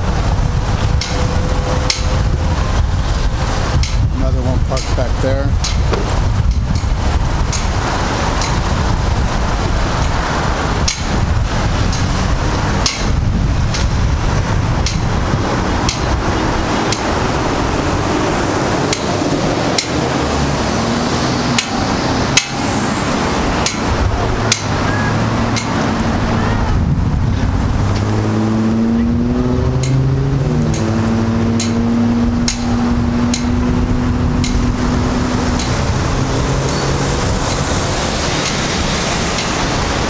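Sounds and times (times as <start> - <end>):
street traffic: 0.0 - 40.0
vehicle engine running: 0.0 - 40.0
wind rumbling on microphone: 0.0 - 40.0.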